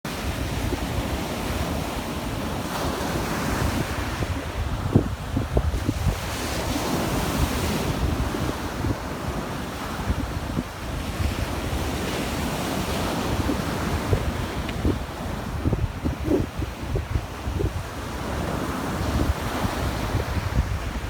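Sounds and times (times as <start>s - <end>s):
sea waves washing on beach: 0.1s - 21.0s
wind buffeting microphone: 0.1s - 21.0s.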